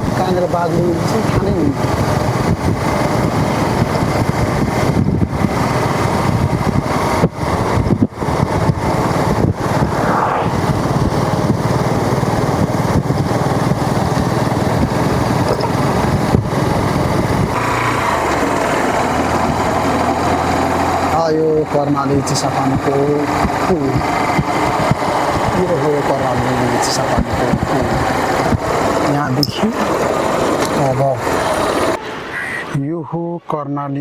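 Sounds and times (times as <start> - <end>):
motorcycle engine running: 0.0 - 10.0, 10.6 - 32.0
steady rushing noise: 0.0 - 32.6.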